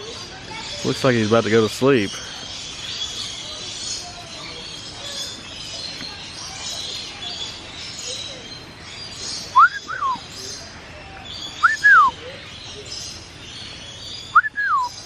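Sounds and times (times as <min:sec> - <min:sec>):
birds chirping and chattering: 0:00.0 - 0:15.0
loud whistled bird calls: 0:02.1 - 0:15.0.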